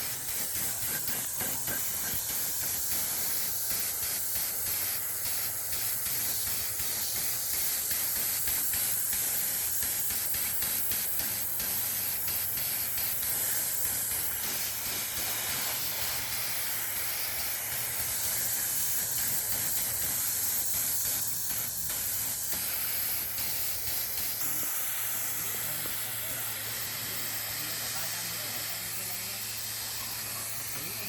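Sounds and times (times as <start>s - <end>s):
hiss of pressurised spray jet: 0.0s - 31.0s.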